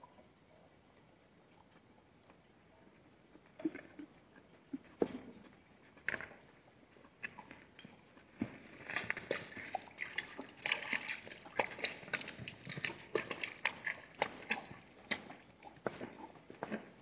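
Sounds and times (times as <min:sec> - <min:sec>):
hoof clicks and knocks: 0:03.4 - 0:17.0.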